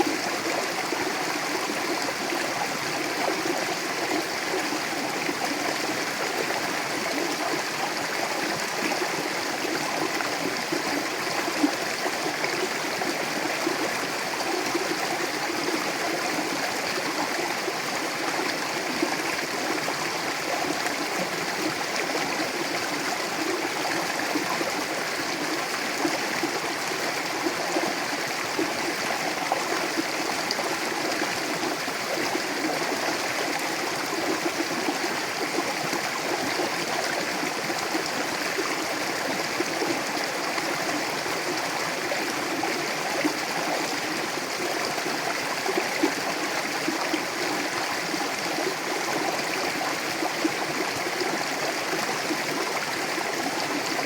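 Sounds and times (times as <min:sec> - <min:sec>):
water gurgles and splashes: 0:00.0 - 0:54.0.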